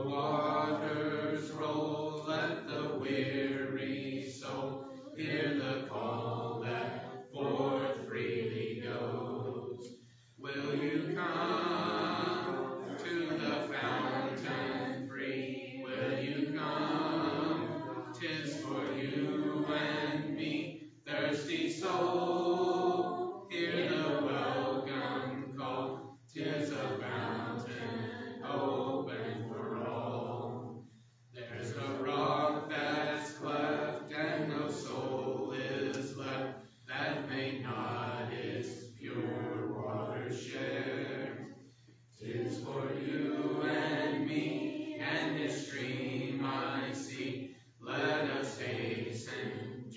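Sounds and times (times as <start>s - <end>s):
congregation singing a hymn: 0.0s - 49.9s.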